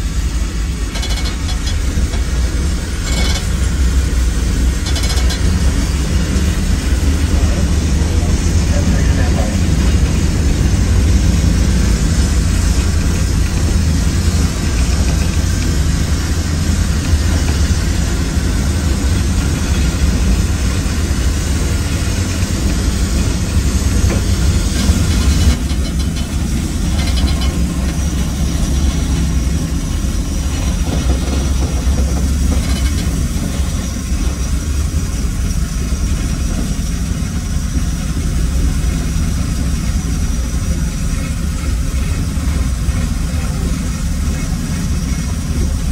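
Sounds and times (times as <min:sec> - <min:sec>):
steam train rumbling: 0:00.0 - 0:45.9.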